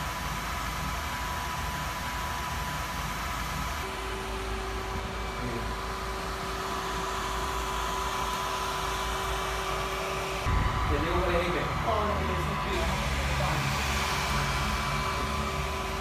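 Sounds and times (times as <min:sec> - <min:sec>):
cooling fan running: 0:00.0 - 0:16.0.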